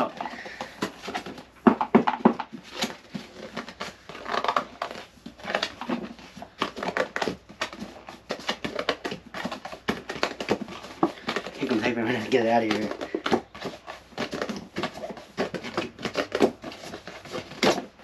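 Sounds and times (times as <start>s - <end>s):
cardboard box scraping and rustling: 0.0s - 18.0s.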